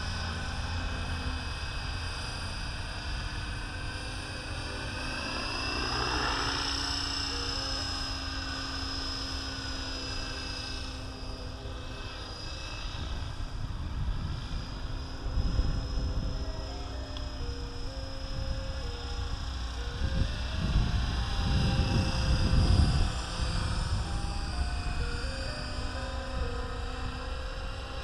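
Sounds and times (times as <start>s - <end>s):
rc helicopter motor whine: 0.0s - 28.0s
rotor whirr: 0.0s - 28.0s.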